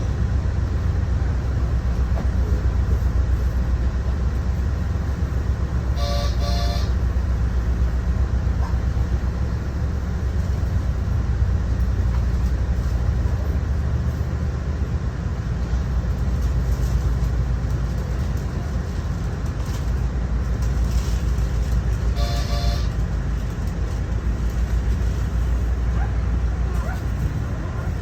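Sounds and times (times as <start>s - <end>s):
vehicle low rumble: 0.0s - 28.0s.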